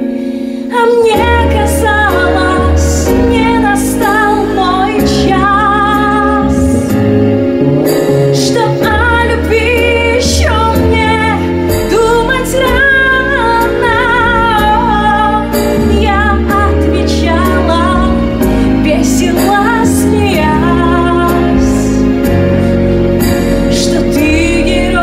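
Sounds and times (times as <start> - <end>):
woman singing into a microphone: 0.0 - 7.2, 8.3 - 22.6, 23.3 - 25.0
instrumental accompaniment: 0.0 - 25.0.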